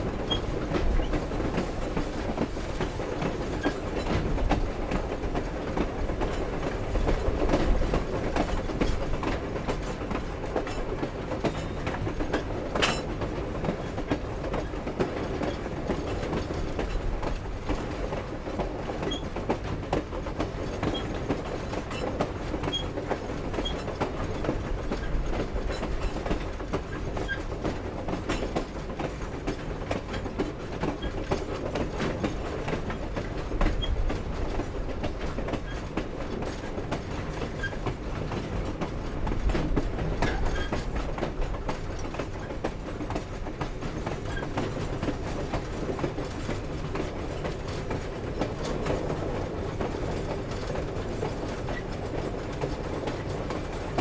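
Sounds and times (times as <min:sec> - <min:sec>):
low train rumble: 0:00.0 - 0:54.0
train cars clanking: 0:00.0 - 0:54.0
wheels clattering on rails: 0:00.0 - 0:54.0.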